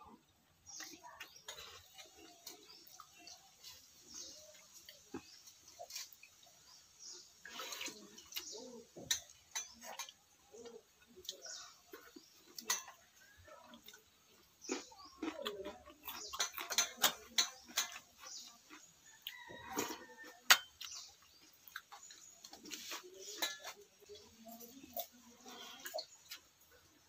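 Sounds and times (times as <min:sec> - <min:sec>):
wet chewing and mouth smacking: 0:00.7 - 0:27.0.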